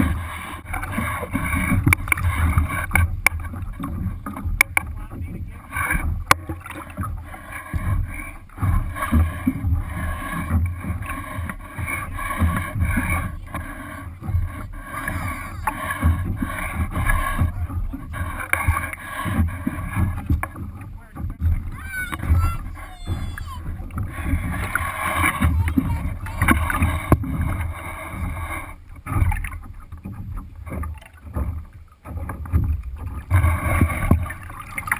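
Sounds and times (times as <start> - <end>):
water slapping boat hull: 0.0 - 34.9.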